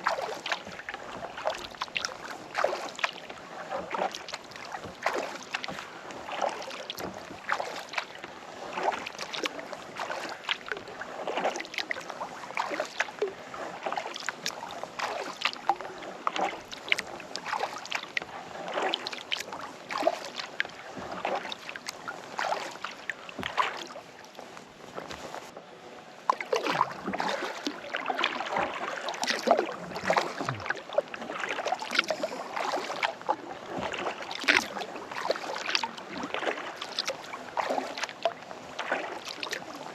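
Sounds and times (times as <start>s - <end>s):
paddle strokes splashing in water: 0.0s - 39.9s.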